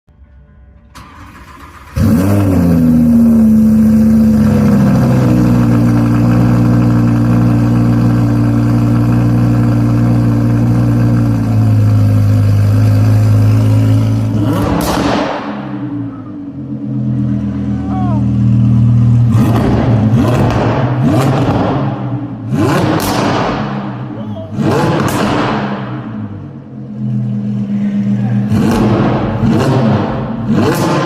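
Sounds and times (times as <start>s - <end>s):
car engine starting and idling: 0.6s - 31.0s
engine revving: 1.0s - 31.0s.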